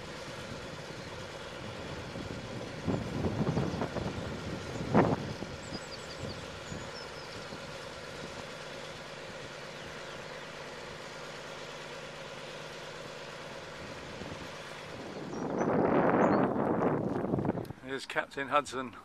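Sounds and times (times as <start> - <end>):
engine idling: 0.0 - 18.3.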